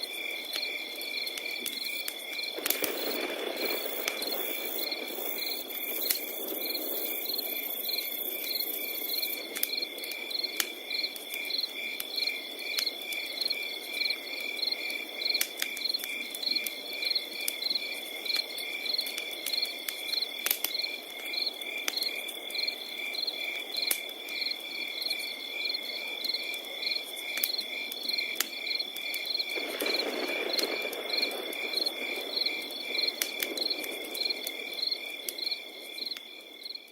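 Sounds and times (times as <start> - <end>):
crickets chirping: 0.0 - 36.9
fire crackling: 0.0 - 36.9.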